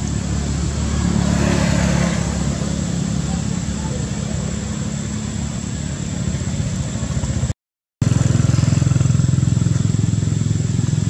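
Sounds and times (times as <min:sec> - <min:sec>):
small engine humming: 0:00.0 - 0:11.0.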